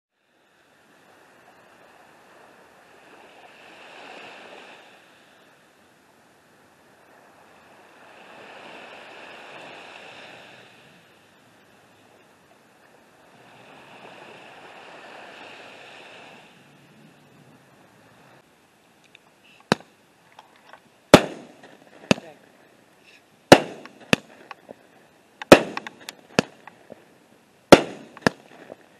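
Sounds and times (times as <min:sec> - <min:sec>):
small waves breaking on sand: 0:00.2 - 0:18.6, 0:21.1 - 0:28.9.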